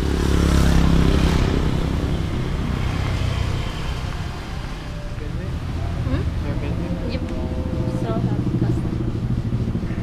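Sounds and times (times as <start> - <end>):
motorcycle passing: 0.0 - 10.0
street traffic rumble: 0.0 - 10.0.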